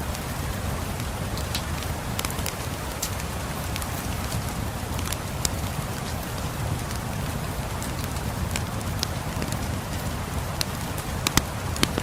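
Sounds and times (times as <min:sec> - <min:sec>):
steady rain falling: 0:00.0 - 0:12.0
wood fire crackling: 0:00.0 - 0:12.0.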